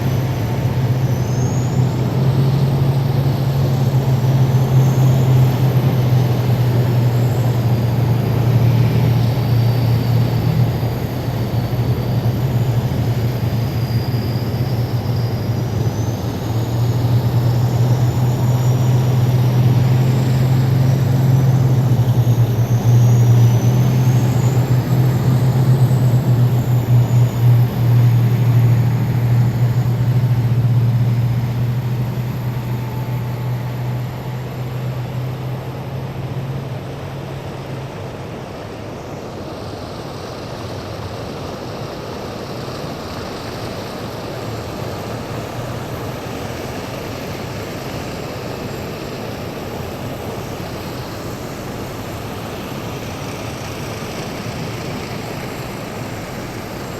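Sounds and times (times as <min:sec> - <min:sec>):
heavy vehicles engine drone: 0:00.0 - 0:56.9.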